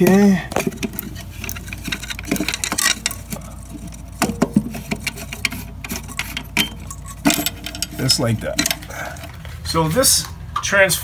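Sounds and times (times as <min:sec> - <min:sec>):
small metallic clicks and scrapes: 0:00.0 - 0:09.5.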